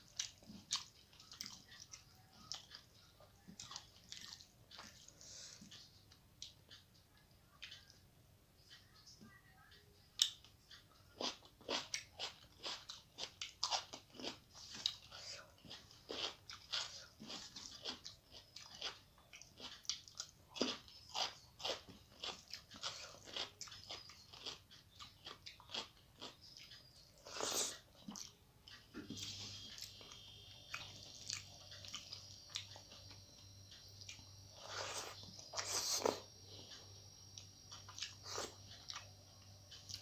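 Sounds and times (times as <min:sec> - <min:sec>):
person chewing and crunching: 0:00.0 - 0:06.9, 0:10.2 - 0:40.0.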